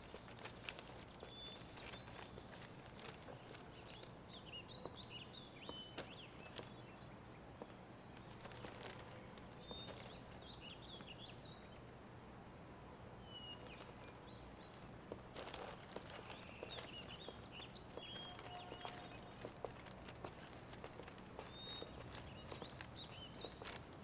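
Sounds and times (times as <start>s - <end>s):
small birds twittering: 0.0s - 11.9s, 13.0s - 24.0s
faint steady hiss: 0.0s - 24.0s.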